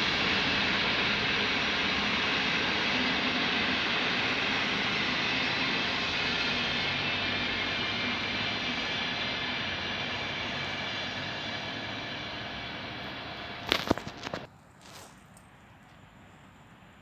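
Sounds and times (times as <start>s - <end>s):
train rumbling past: 0.0s - 14.5s.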